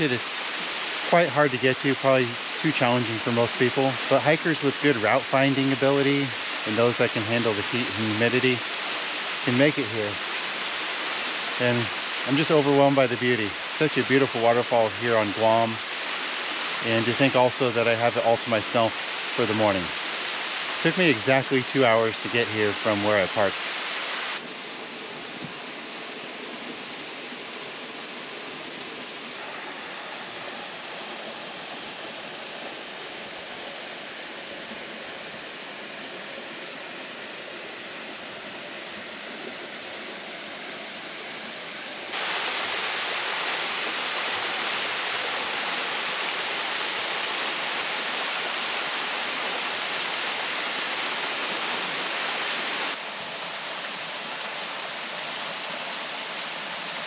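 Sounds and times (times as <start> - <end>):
waterfall rushing hiss: 0.0 - 57.0.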